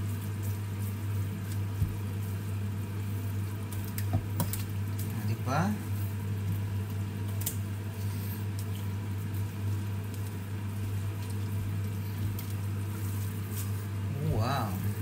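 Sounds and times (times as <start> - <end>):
steady low hum: 0.0 - 15.0
tongs mixing noodles in a pan: 0.0 - 15.0.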